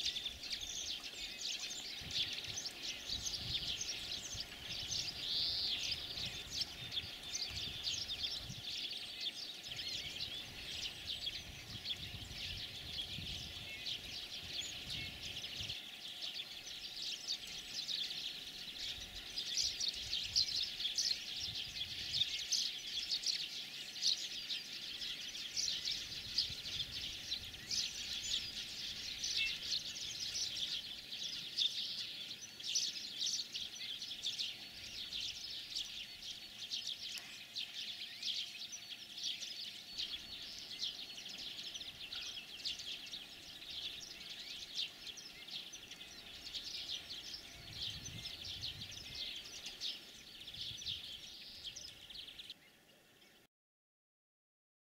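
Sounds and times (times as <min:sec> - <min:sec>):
finches twittering and trilling: 0:00.0 - 0:53.4.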